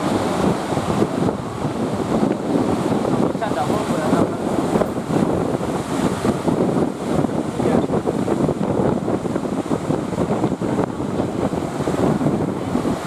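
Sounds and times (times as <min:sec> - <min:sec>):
sea surf: 0:00.0 - 0:13.0
wind buffeting microphone: 0:00.0 - 0:13.0.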